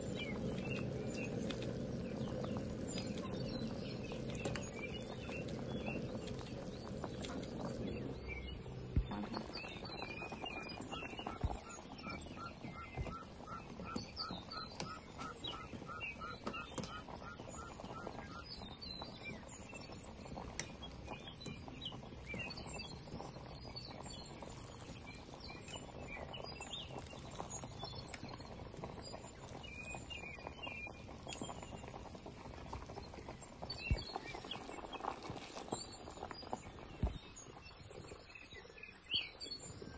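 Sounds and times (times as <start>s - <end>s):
steady low hiss: 0.0s - 38.8s
birds chirping: 0.0s - 39.9s.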